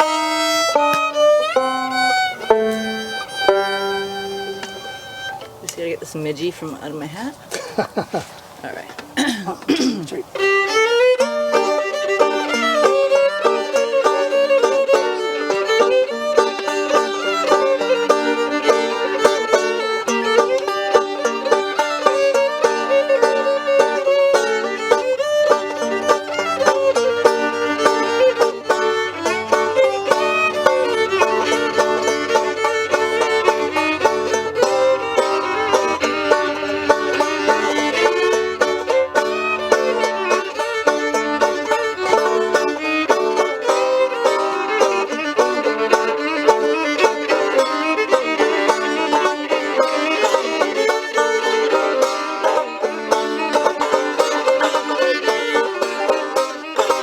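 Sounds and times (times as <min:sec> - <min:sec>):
plucked banjo: 0:00.0 - 0:08.3, 0:08.9 - 0:57.0
fiddle melody: 0:00.0 - 0:57.0.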